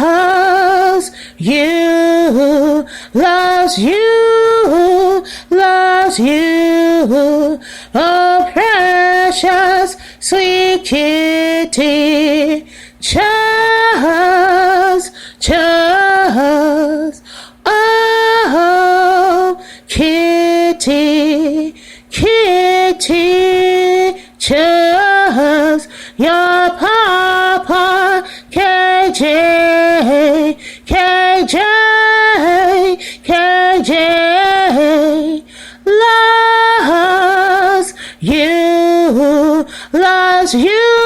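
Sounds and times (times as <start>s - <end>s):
woman singing a cappella: 0.0s - 41.0s.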